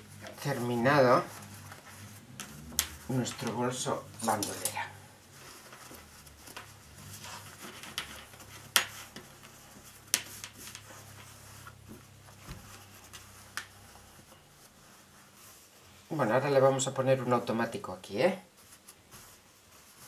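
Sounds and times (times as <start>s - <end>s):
fabric rustling and rubbing: 0.0s - 20.0s.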